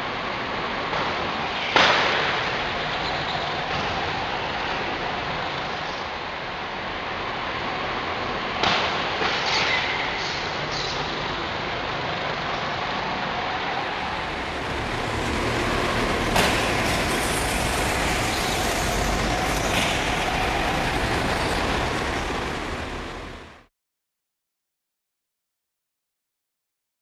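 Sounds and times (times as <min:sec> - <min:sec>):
go-kart engines droning: 0:00.0 - 0:23.7.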